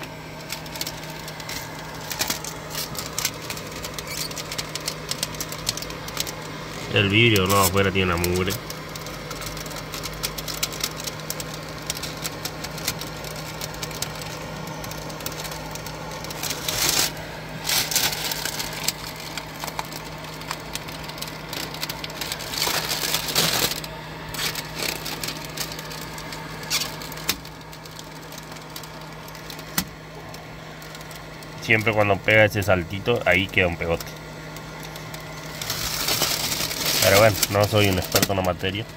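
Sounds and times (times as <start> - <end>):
plastic film crackling as peeled: 0.0 - 38.9.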